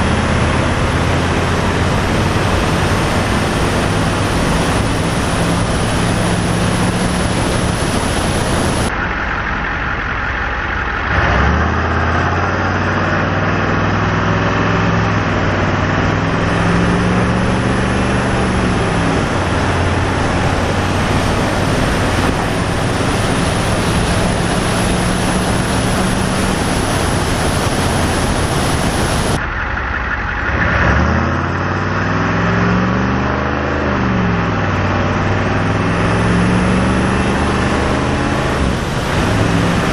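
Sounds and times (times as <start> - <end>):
diesel truck exhaust: 0.0 - 39.9.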